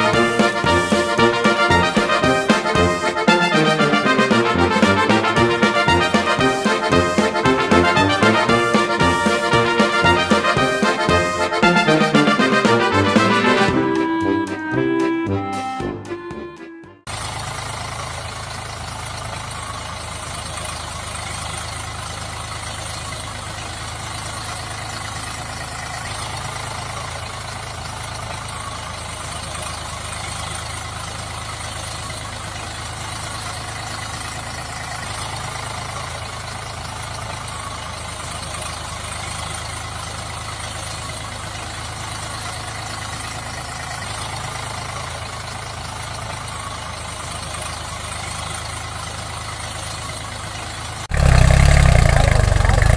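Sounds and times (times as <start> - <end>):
tractor engine idling: 0.0 - 52.9.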